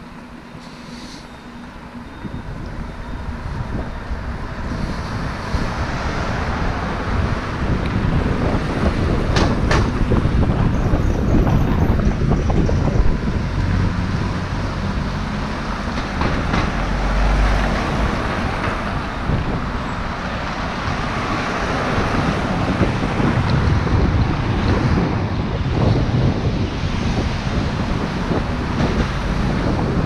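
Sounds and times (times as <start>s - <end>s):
cars driving past: 0.0s - 30.0s
wind buffeting microphone: 2.1s - 30.0s.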